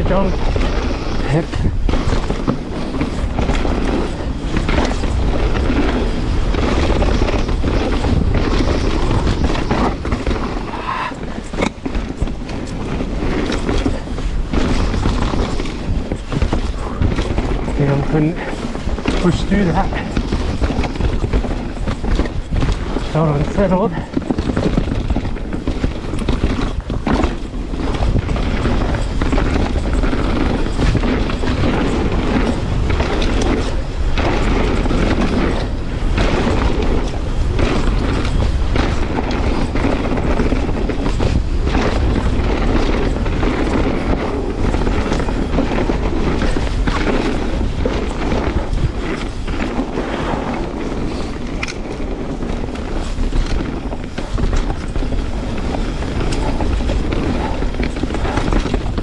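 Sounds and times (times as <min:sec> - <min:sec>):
bike tyres and frame rattling: 0:00.0 - 0:59.0
wind buffeting microphone: 0:00.0 - 0:59.0.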